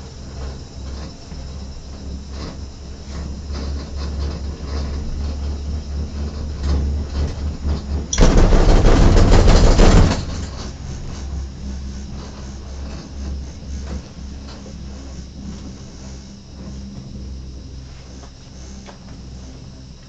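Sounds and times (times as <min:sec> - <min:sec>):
cable car clattering rumble: 0:00.0 - 0:20.0
low hum of cable car cabin: 0:00.0 - 0:20.0.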